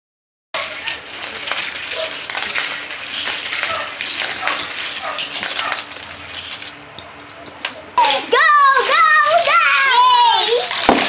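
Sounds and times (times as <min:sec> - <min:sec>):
plastic toy track pieces clicking: 0:00.7 - 0:06.8, 0:08.0 - 0:11.0.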